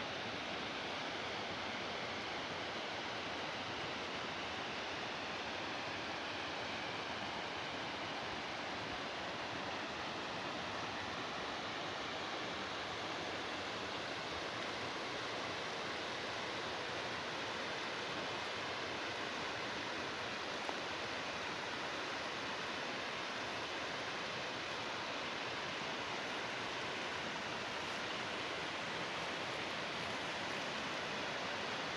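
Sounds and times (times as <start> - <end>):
water rushing in a canal: 0.0 - 31.9.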